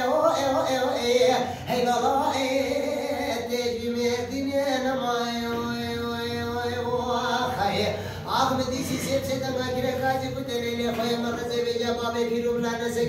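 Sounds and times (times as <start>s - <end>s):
man singing unaccompanied: 0.0s - 13.0s.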